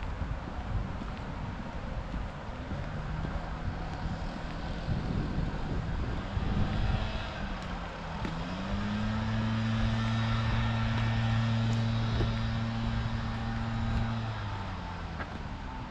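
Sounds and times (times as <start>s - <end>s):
engine running with steady hum: 0.0s - 15.9s.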